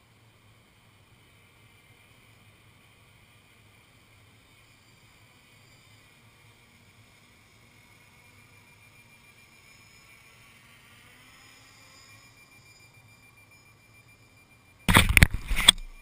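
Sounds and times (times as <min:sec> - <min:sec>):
distant quadcopter whining: 0:00.0 - 0:16.0.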